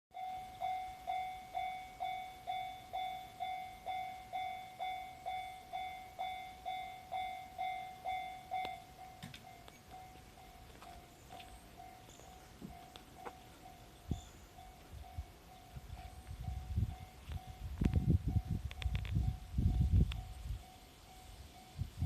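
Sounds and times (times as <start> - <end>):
level-crossing warning bell ringing: 0.1 - 22.0.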